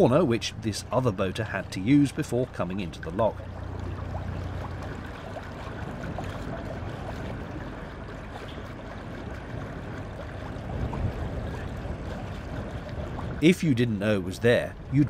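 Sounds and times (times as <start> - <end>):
river water rushing: 0.0 - 13.6
low rumble: 0.0 - 15.0.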